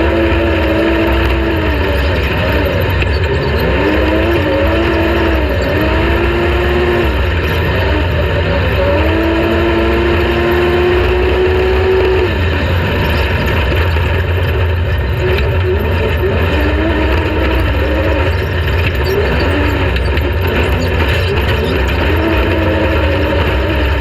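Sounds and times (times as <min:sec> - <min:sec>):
race vehicle engine revving: 0:00.0 - 0:24.0.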